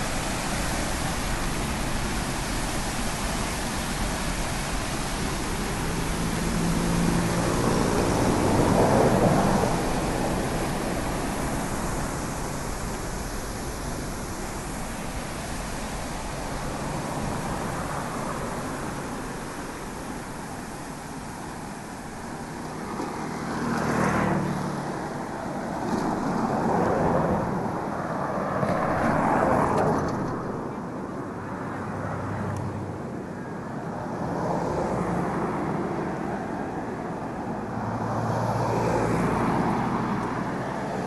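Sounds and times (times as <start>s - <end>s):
road traffic rushing: 0.0s - 41.0s
vehicles passing by: 0.0s - 41.0s.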